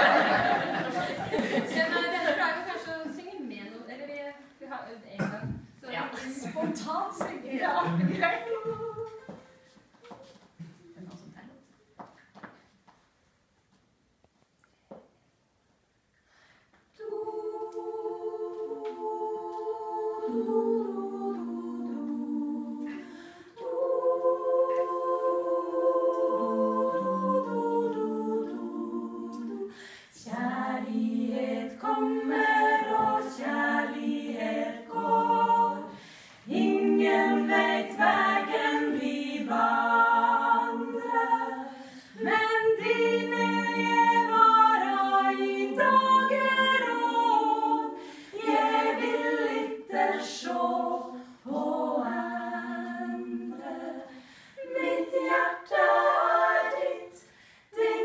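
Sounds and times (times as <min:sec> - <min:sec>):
women's choir singing a cappella: 0:00.0 - 0:10.2, 0:16.9 - 0:58.0.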